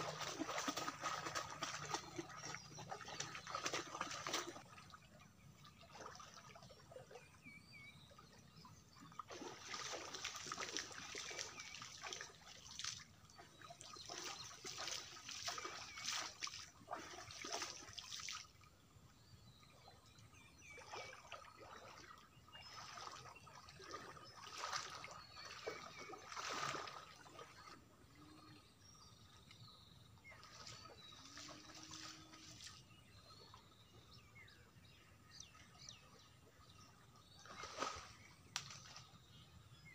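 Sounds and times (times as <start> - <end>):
pond water splashing: 0.0 - 39.9.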